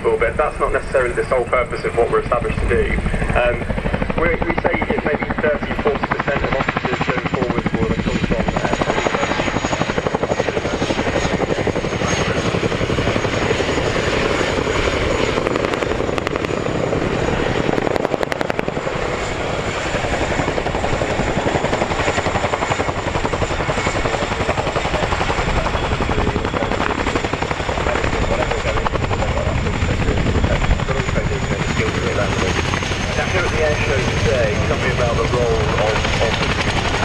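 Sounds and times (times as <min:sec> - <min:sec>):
helicopter rotor chopping: 0:00.0 - 0:37.0
turbine engine noise: 0:00.0 - 0:37.0.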